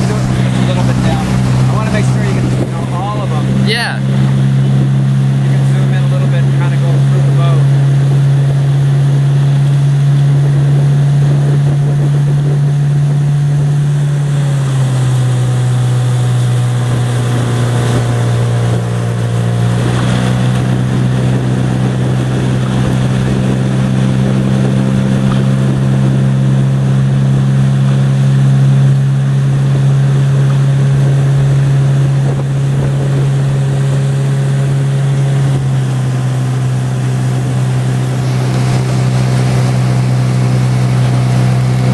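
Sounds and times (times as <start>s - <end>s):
motorboat engine running: 0.0s - 41.9s.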